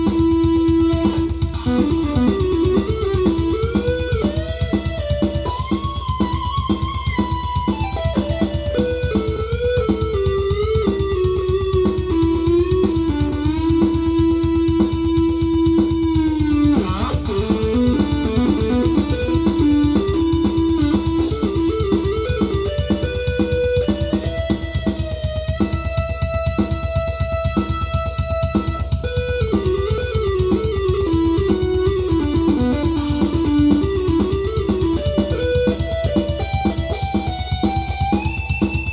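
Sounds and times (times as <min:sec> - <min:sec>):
fast drum pattern: 0:00.0 - 0:38.9
synthesizer lead melody: 0:00.0 - 0:38.9.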